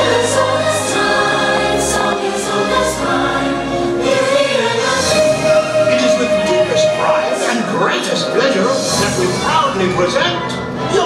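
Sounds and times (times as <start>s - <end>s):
choir singing held notes: 0.0s - 11.0s
instrumental backing music: 0.0s - 11.0s.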